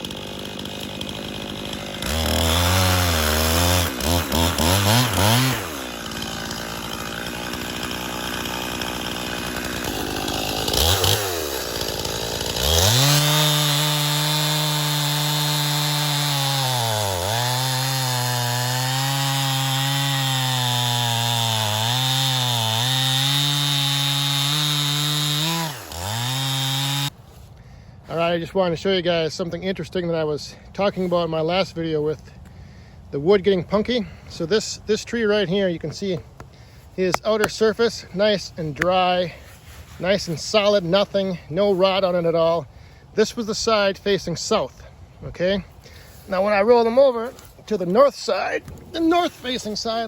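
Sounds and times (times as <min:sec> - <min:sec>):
chainsaw cutting log: 0:00.0 - 0:28.3, 0:30.9 - 0:50.0.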